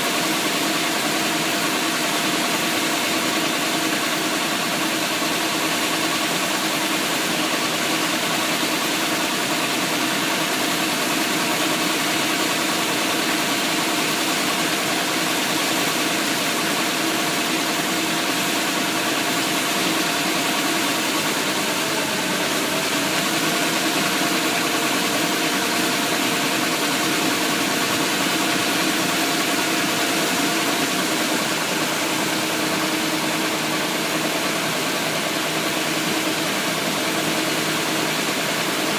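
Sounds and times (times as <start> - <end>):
truck engine running: 3.2 - 38.9.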